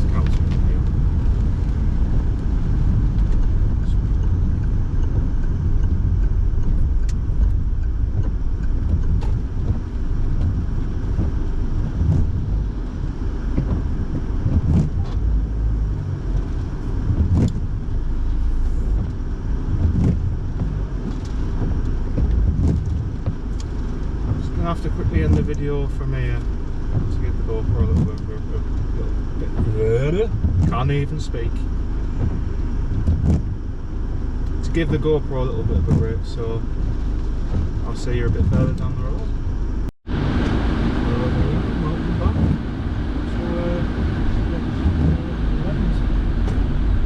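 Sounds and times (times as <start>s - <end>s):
engine and tyre rumble: 0.0s - 47.0s.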